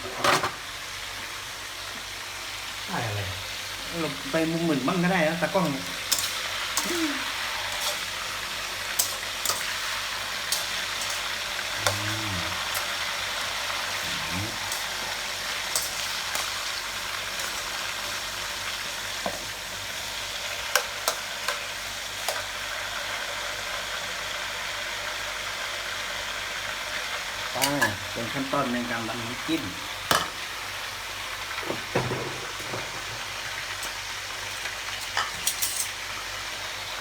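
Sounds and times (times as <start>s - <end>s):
pork sizzling in hot oil: 0.0s - 37.0s.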